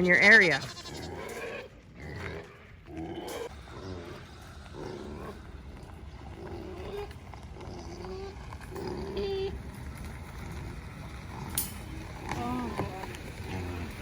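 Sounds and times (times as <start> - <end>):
goats bleating: 0.0 - 9.6, 12.2 - 14.0.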